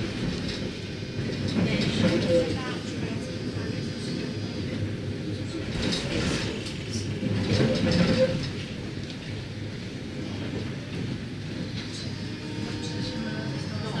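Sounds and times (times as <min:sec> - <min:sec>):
tram wheels rumbling and rattling: 0:00.0 - 0:14.0.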